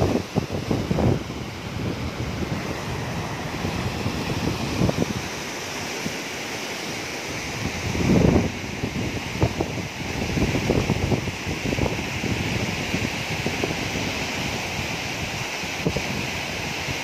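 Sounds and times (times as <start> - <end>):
wind buffeting microphone: 0.0 - 6.2, 7.3 - 17.0
floodwater rushing: 0.0 - 17.0.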